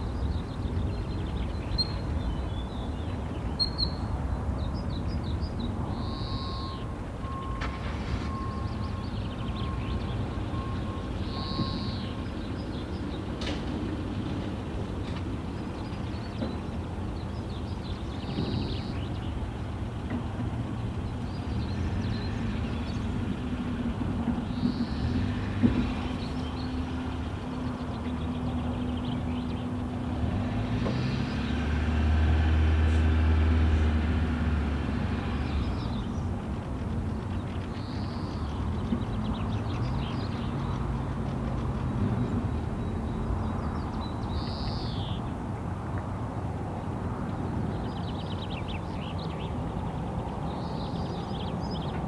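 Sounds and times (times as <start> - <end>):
vehicle engine hum: 0.0 - 52.0.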